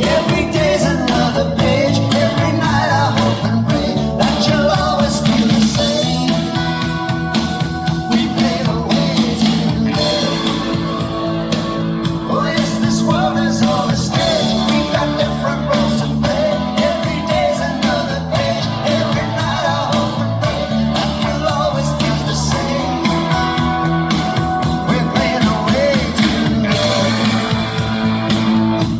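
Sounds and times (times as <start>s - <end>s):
loud rock song with singer: 0.0s - 28.9s.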